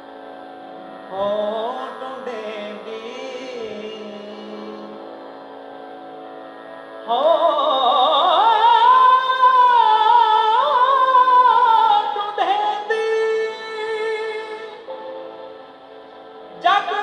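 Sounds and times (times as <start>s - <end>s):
steady drone: 0.0s - 17.0s
man singing devotional melody: 1.0s - 5.9s, 7.0s - 15.5s, 16.5s - 17.0s.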